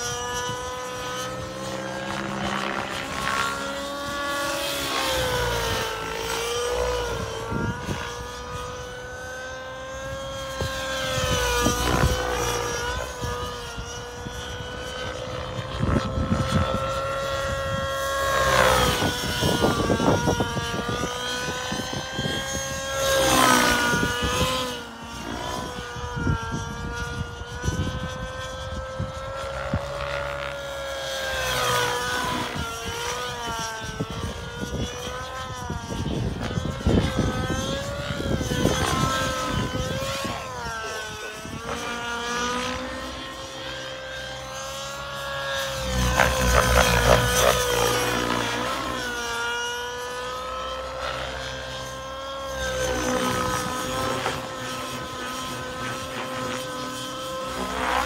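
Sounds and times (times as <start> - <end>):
model helicopter engine and rotor whine: 0.0 - 58.0.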